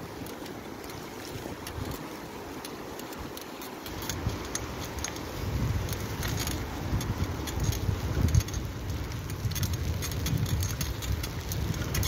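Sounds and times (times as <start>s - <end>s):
bicycle tyres crunching snow: 0.0s - 12.0s
bike rattling clicks: 0.0s - 12.0s.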